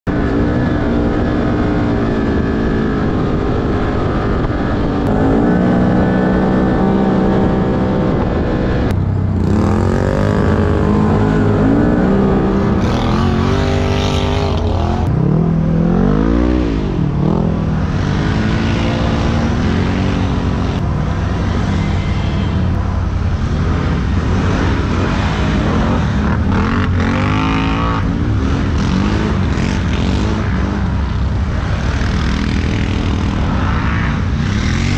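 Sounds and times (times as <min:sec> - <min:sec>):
off-road vehicle engine: 0:00.0 - 0:34.9.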